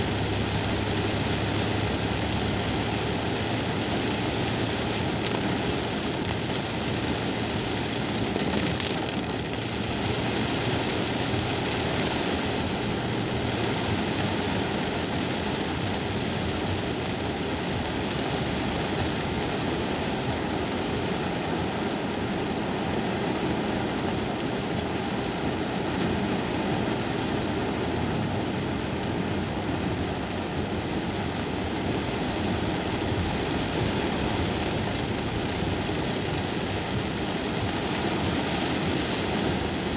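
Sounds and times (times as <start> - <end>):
car engine: 0.0 - 39.9
heavy rain on a car roof: 0.0 - 39.9
tyres on a wet road: 0.0 - 39.9.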